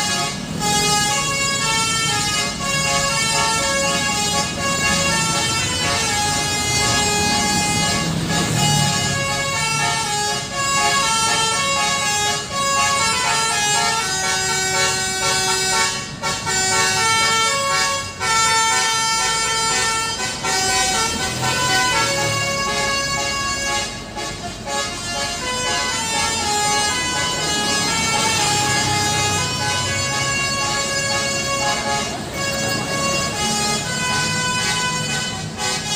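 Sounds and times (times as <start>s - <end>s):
musical air horn melody: 0.0s - 35.9s.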